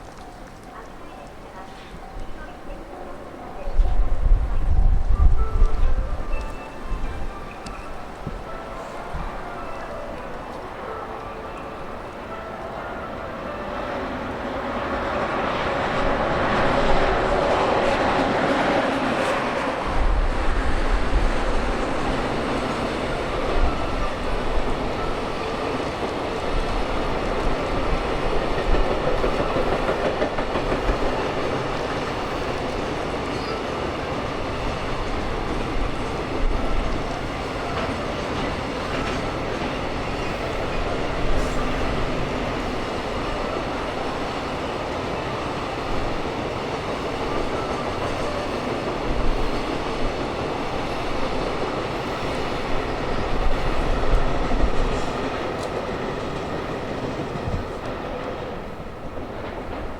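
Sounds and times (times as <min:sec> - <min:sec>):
train running on rails: 0:00.0 - 0:59.9.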